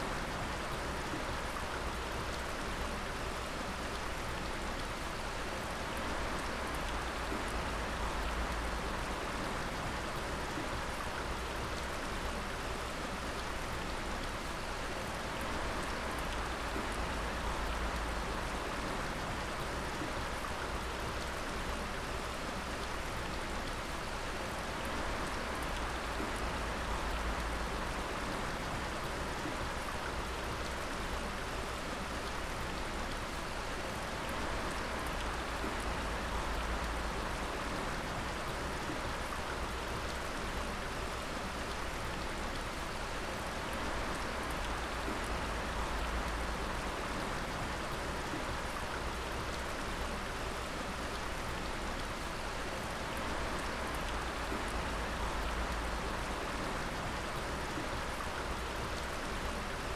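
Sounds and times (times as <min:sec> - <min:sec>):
water dripping and splashing: 0:00.4 - 0:59.9.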